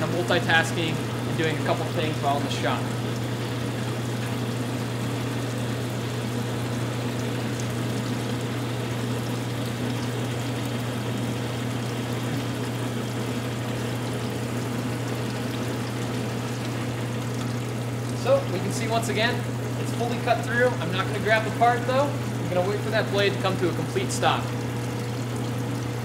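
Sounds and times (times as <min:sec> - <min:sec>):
bandsaw motor and blade hum: 0:00.0 - 0:24.5
coolant trickling: 0:00.0 - 0:26.0.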